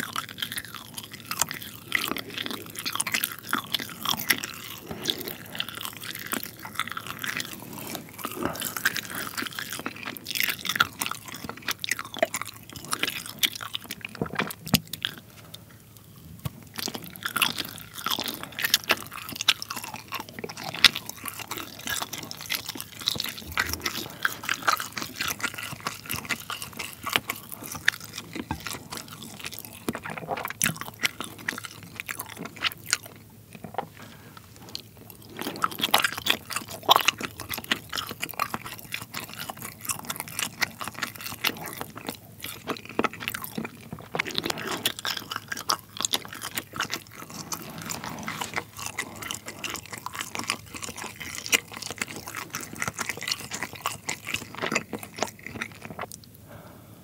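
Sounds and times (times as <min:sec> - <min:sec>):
chewing with wet mouth clicks: 0:00.0 - 0:56.4.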